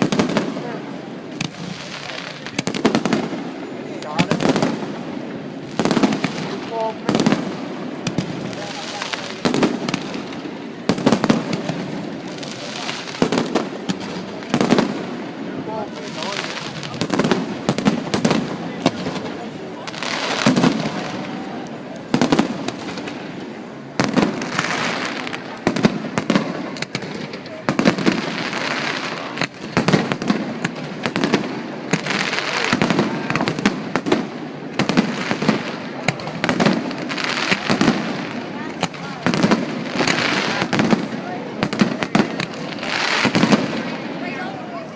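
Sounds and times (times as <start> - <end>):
crackling hiss: 0.0 - 44.9
fireworks bangs: 0.0 - 44.9.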